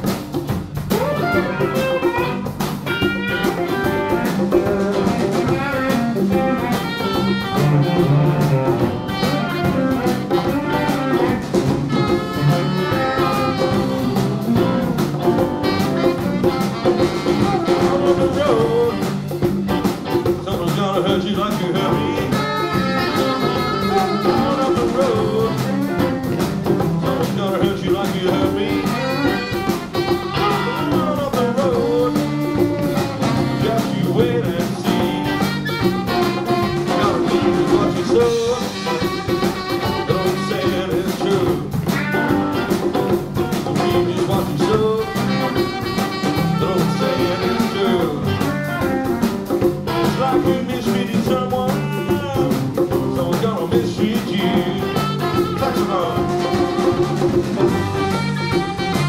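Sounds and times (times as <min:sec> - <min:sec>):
blues band playing: 0:00.0 - 0:59.0.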